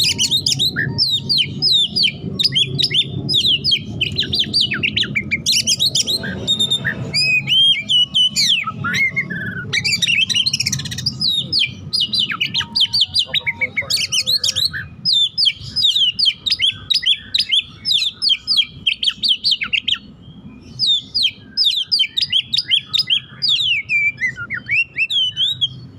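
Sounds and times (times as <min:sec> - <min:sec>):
magpie-robin singing whistled notes: 0:00.0 - 0:25.9.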